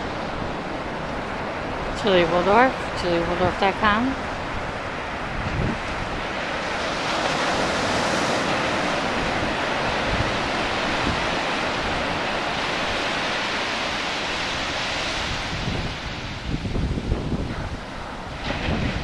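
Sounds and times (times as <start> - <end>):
ocean surf washing onto beach: 0.0 - 19.0
wind rumbling on microphone: 0.0 - 19.0.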